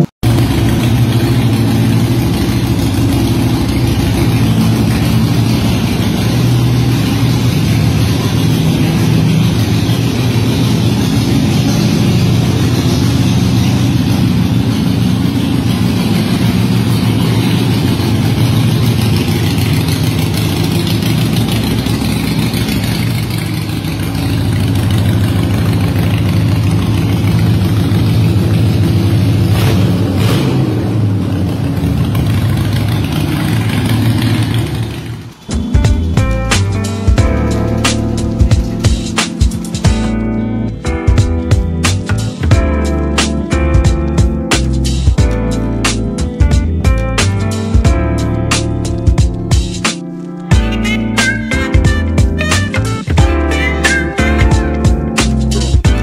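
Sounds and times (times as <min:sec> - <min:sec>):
motorcycle idling loudly: 0:00.0 - 0:49.9, 0:50.5 - 0:56.0.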